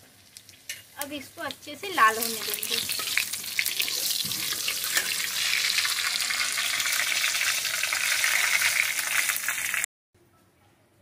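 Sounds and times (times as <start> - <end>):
spices sizzling in hot oil: 0.0 - 9.9.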